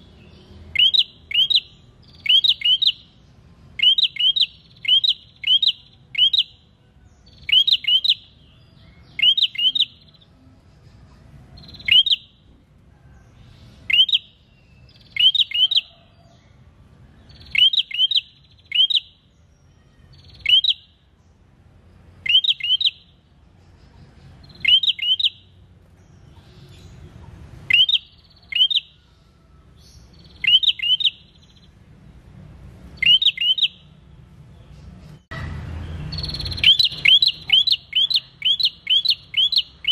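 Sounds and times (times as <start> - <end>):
songbird calling: 0.0 - 10.3, 11.6 - 12.4, 13.5 - 16.6, 17.2 - 21.1, 22.2 - 31.8, 32.9 - 34.9, 36.1 - 39.9.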